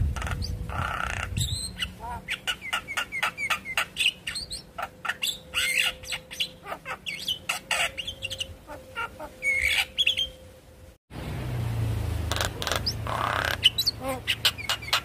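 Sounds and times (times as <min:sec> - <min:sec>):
myna calling: 0:00.0 - 0:10.4, 0:12.3 - 0:15.0.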